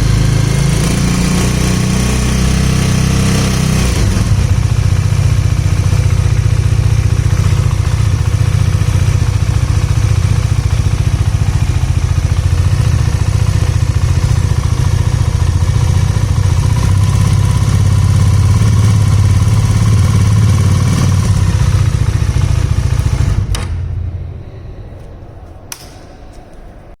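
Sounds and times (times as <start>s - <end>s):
motorcycle engine ticking: 1.2s - 23.9s.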